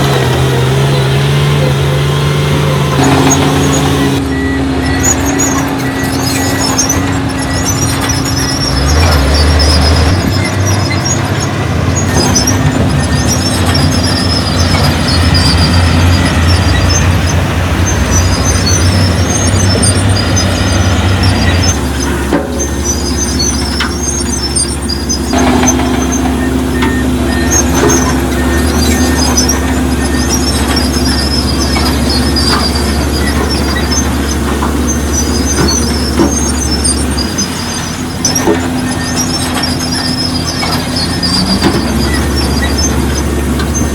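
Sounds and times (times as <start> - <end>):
bulldozer diesel engine under load: 0.0 - 43.9
steel tracks squeaking: 0.0 - 43.9.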